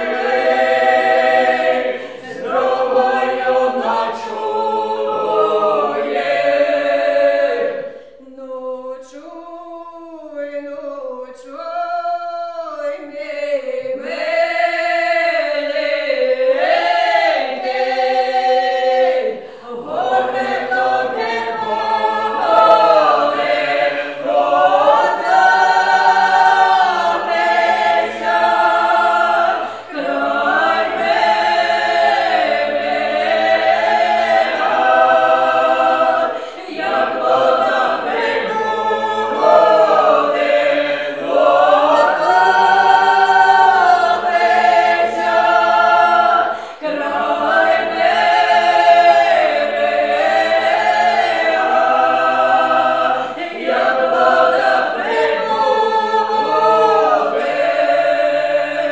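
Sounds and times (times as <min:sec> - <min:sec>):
women singing: 0:00.0 - 0:58.9.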